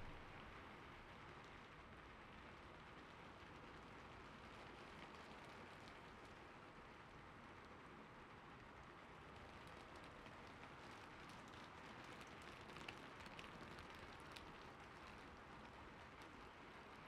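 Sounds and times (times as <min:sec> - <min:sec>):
gentle rain hiss: 0:00.0 - 0:17.0.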